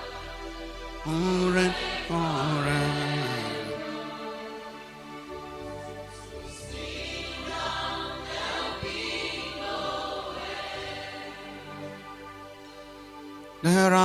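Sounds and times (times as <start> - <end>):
choir singing: 0.0 - 14.0
sustained keyboard chords: 0.0 - 14.0.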